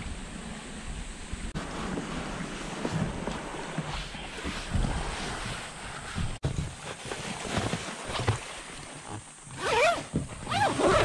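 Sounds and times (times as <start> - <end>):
nylon bag rustling: 1.6 - 11.0.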